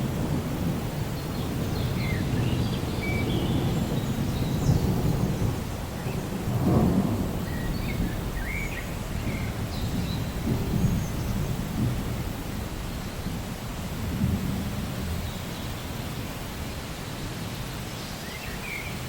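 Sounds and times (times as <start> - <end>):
distant thunder rumbling: 0.0 - 15.8
steady rain: 0.0 - 19.0.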